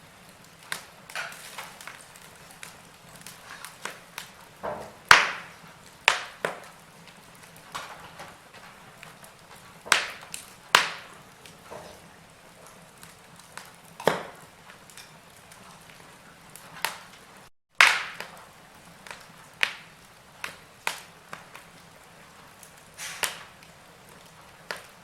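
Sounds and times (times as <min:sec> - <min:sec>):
fire hissing: 0:00.0 - 0:25.0
wood fire crackling: 0:00.0 - 0:25.0
sharp pops of burning logs: 0:00.2 - 0:25.0.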